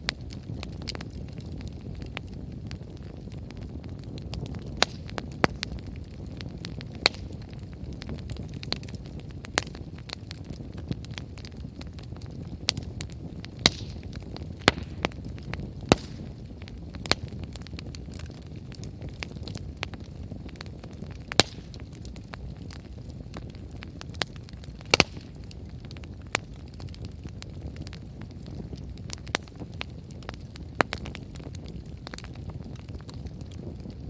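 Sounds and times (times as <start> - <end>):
firewood crackling and popping: 0.0 - 34.0
low rumble of flame: 0.0 - 34.0.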